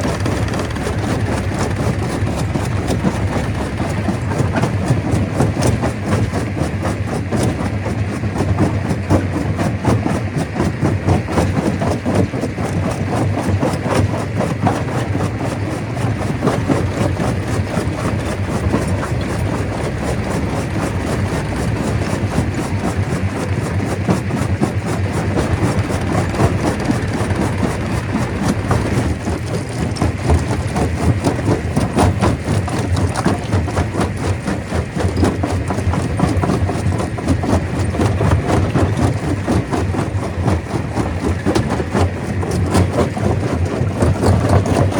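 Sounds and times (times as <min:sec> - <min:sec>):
stone crusher rumbling: 0:00.0 - 0:06.6, 0:10.9 - 0:44.9.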